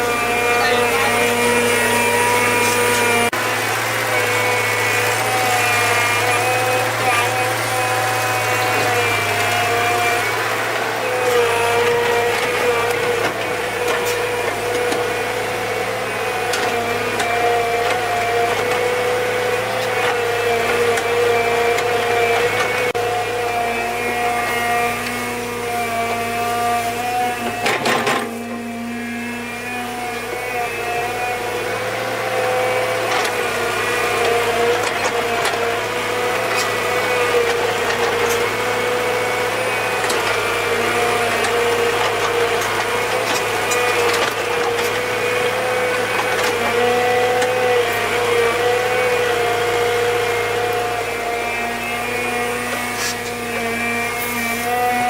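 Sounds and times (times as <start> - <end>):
motor humming and whining: 0.0 - 55.0.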